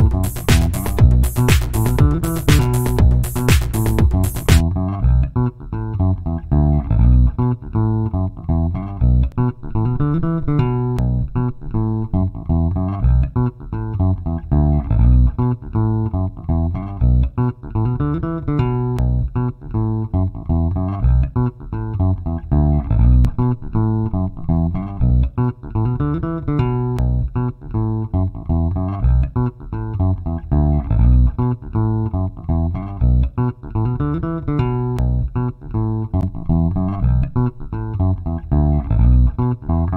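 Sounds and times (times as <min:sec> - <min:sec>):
funk electric bass riff: 0:00.0 - 0:39.9.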